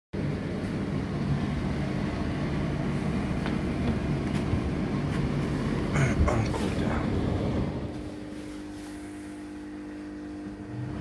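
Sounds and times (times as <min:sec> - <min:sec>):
tumble dryer motor hum: 0:00.2 - 0:11.0.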